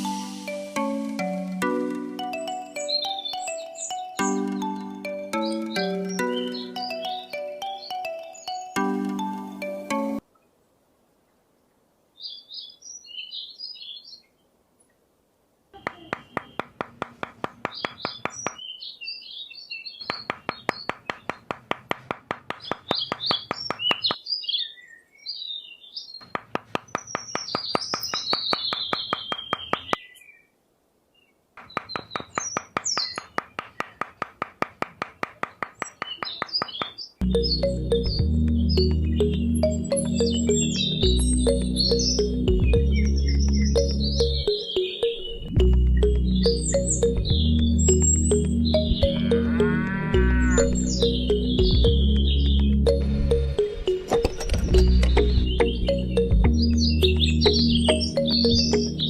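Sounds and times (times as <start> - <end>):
birds chirping: 0.0 - 10.2, 15.7 - 59.0.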